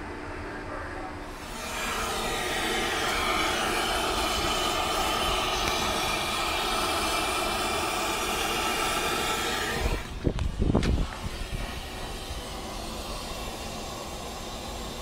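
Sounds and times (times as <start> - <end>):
gas torch flame hissing: 1.3 - 15.0.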